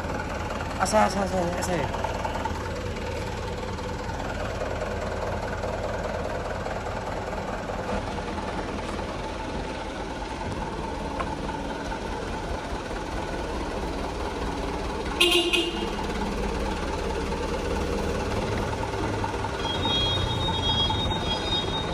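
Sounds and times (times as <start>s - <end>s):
truck engine idling: 0.0s - 21.9s.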